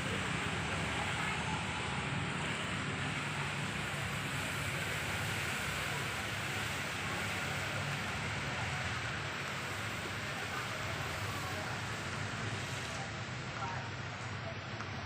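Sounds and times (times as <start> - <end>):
steady rain pattering: 0.0 - 15.0.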